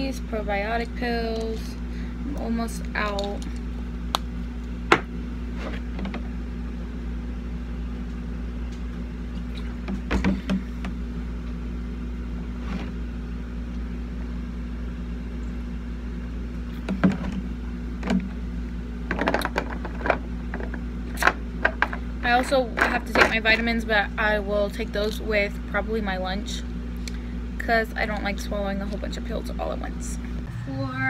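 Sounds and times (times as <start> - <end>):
air conditioner humming: 0.0 - 31.0.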